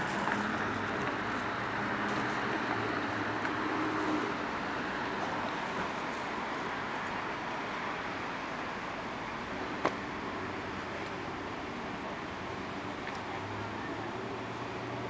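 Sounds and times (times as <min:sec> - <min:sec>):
busy road traffic: 0:00.0 - 0:15.0.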